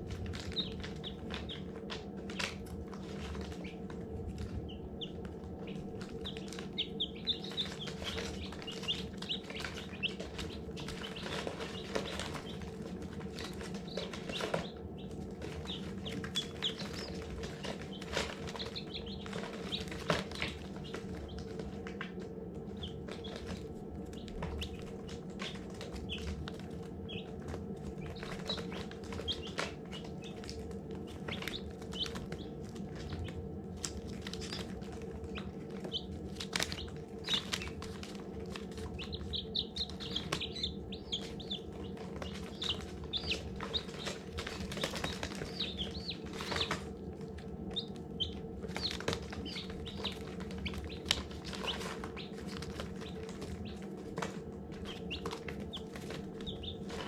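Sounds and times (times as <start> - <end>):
baby chicks peeping: 0.0 - 57.0
steady low hum: 0.0 - 57.0.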